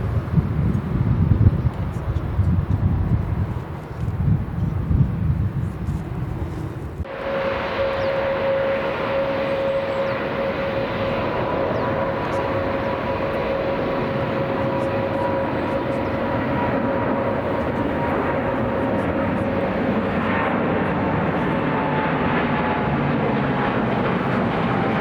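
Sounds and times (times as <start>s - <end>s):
jet engines rushing and whining: 0.0s - 25.0s.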